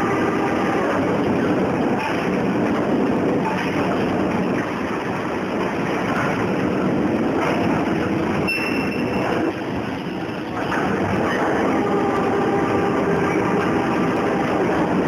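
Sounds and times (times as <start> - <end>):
conveyor machinery running: 0.0 - 15.0.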